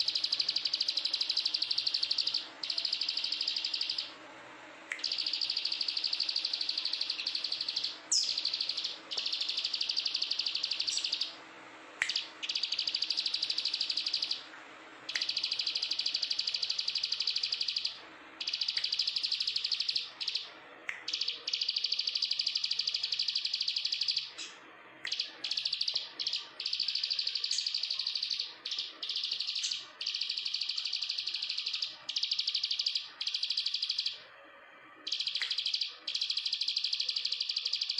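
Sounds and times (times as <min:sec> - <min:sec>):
bird singing buzzy trills: 0:00.0 - 0:04.1, 0:04.9 - 0:11.4, 0:12.0 - 0:14.5, 0:15.1 - 0:34.2.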